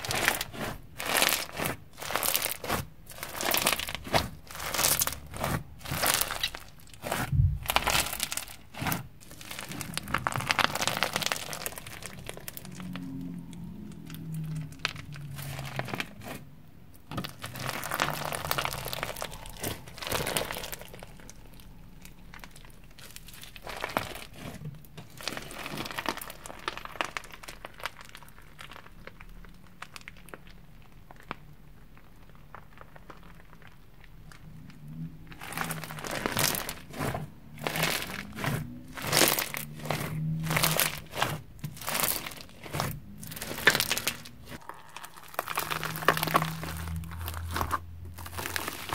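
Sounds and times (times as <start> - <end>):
slime beads crackling and crunching: 0.0 - 48.9.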